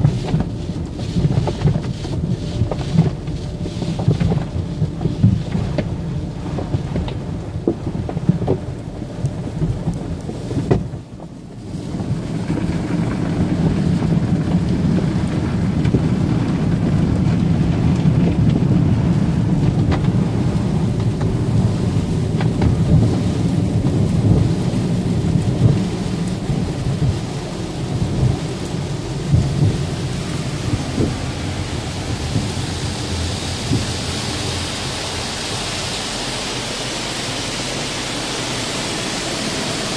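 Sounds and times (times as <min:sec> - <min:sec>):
car wash water spraying: 0:00.0 - 0:39.9
deep steady rumble: 0:00.0 - 0:39.9.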